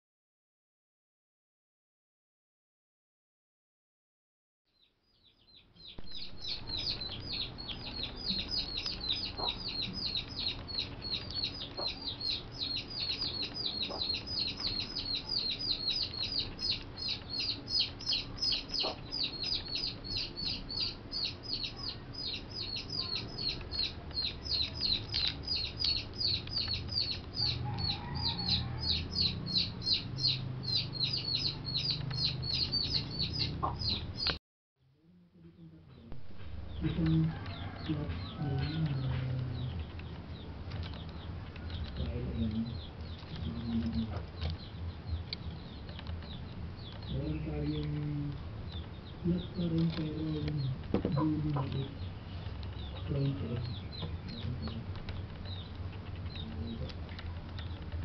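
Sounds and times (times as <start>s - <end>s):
bird chirping: 4.7s - 34.4s, 35.4s - 58.0s.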